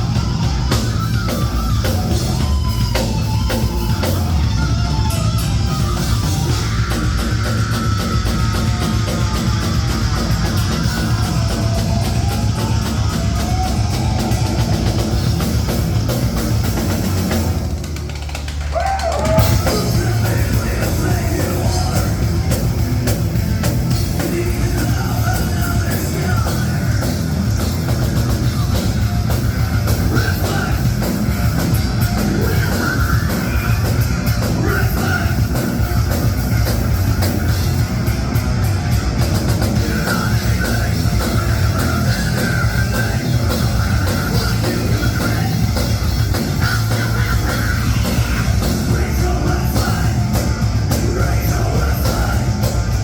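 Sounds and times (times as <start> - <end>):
live rock band playing: 0.0 - 53.0.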